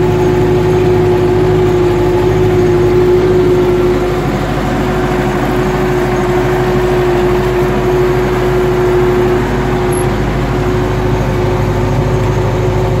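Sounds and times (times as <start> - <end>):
steady whine: 0.0 - 13.0
tractor engine drone: 0.0 - 13.0.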